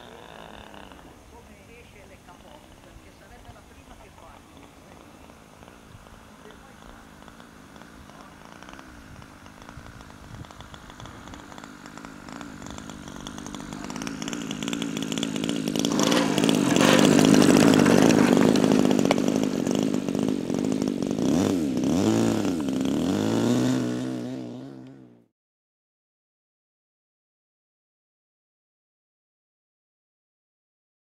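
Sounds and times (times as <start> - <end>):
model airplane engine: 0.0 - 25.3.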